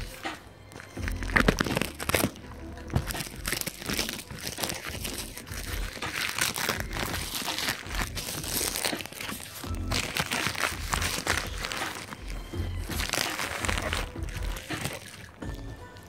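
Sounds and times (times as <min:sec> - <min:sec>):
packaging wrap crinkling: 0:00.0 - 0:16.0.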